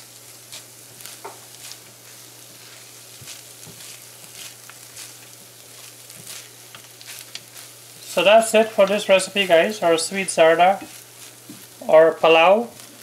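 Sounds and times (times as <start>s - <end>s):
rice sizzling in frying pan: 0.0s - 13.0s
spatula scraping pan: 0.5s - 11.8s.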